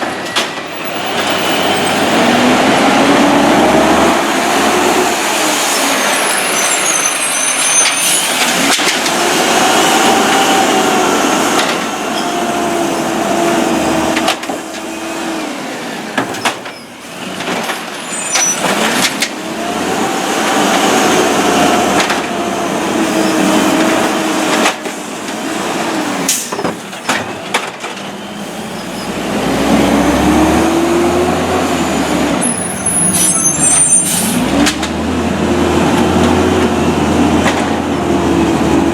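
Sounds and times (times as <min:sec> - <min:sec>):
diesel engine revving: 0:00.0 - 0:16.2, 0:17.0 - 0:26.4, 0:28.2 - 0:38.9.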